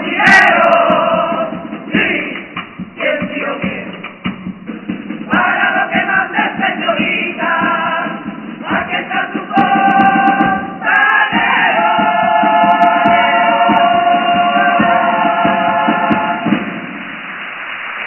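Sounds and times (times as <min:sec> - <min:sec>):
men singing in chorus: 0:00.0 - 0:04.1, 0:05.3 - 0:16.7.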